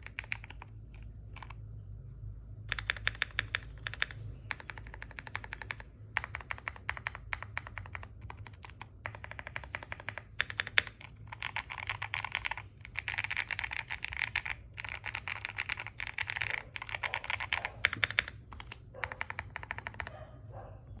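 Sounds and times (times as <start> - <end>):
mechanical keyboard typing clicks: 0.0 - 0.7, 2.7 - 20.2.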